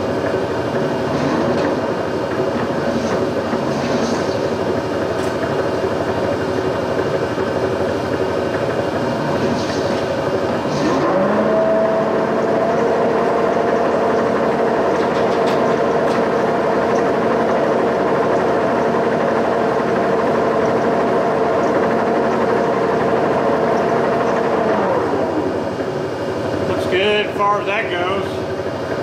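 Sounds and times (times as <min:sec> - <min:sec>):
machine feed motor hum: 0:00.0 - 0:29.0.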